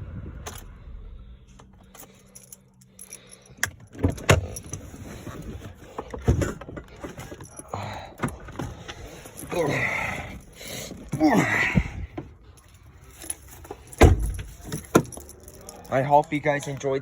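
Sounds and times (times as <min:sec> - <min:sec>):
keys jangling: 0:01.6 - 0:16.8.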